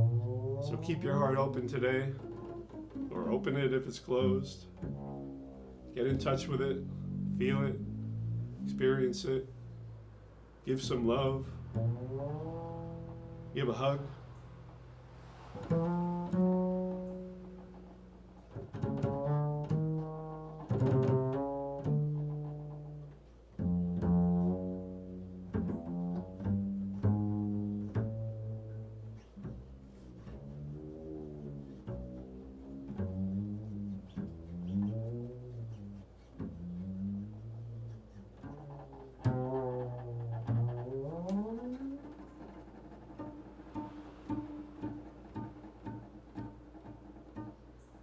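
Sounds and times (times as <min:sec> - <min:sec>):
low string instrument sliding notes: 0:00.0 - 0:48.0.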